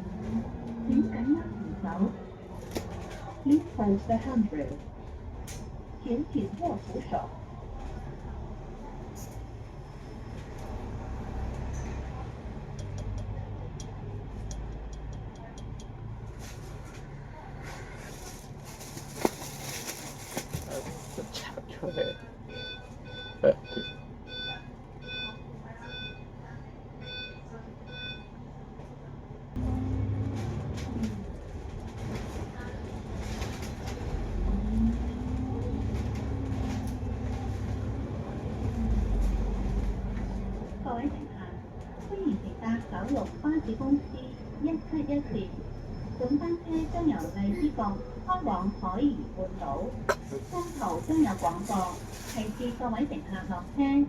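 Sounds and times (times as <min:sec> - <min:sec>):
bus engine hum: 0:00.0 - 0:54.0.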